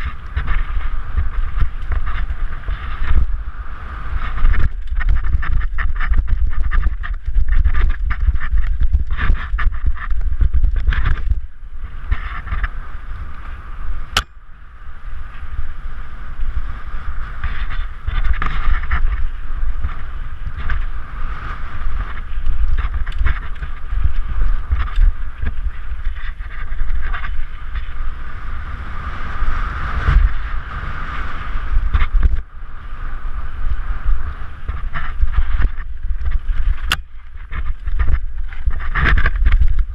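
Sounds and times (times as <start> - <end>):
bike rattling over rocks: 0.0 - 14.5, 15.4 - 28.5, 33.4 - 39.9
wind buffeting camera: 0.0 - 39.9.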